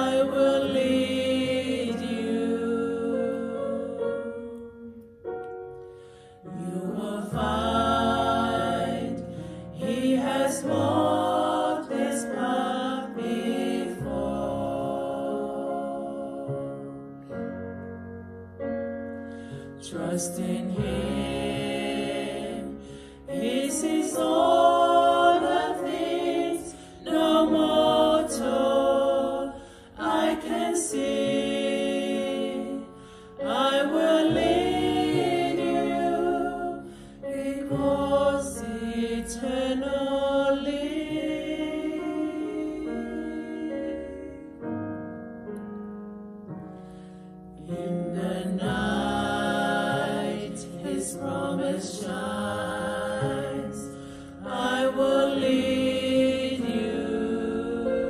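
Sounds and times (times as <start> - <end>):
women and girls singing worship song: 0.0 - 4.7, 6.5 - 16.9, 19.8 - 44.6, 47.6 - 58.0.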